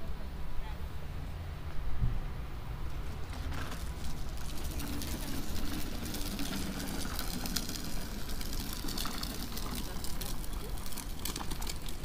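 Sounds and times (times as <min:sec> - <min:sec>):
vehicle engine rumbling: 0:02.1 - 0:12.0.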